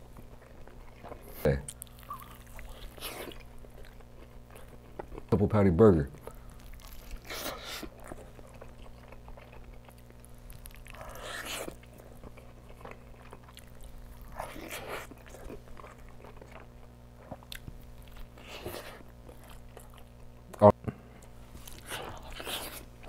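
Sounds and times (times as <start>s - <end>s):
biting and chewing burger: 0.0s - 5.4s, 6.1s - 20.6s, 21.2s - 23.0s.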